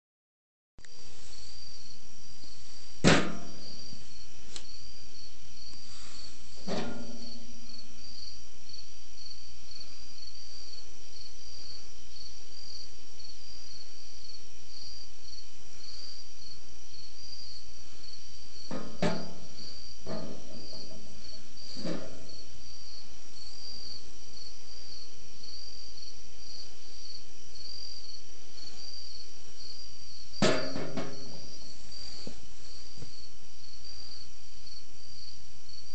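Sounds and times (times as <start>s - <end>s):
crickets chirping: 0.8s - 35.9s.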